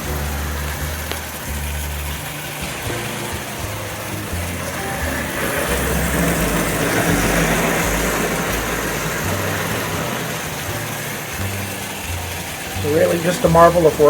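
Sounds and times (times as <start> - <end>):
model train motor hum: 0.0 - 14.0
train wheel rumble: 0.0 - 14.0.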